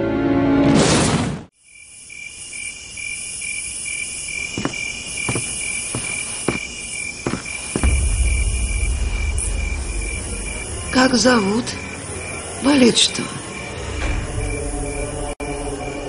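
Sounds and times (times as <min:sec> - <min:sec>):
crickets chirping: 0:01.5 - 0:16.0.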